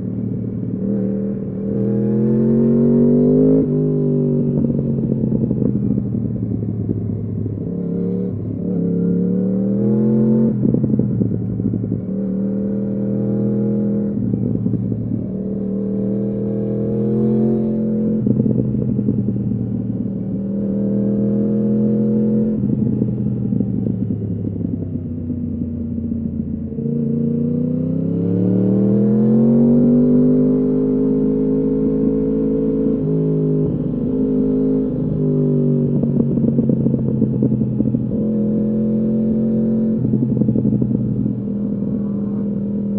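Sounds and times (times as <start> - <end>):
motorcycle engine revving: 0.0 - 24.8, 25.4 - 42.9.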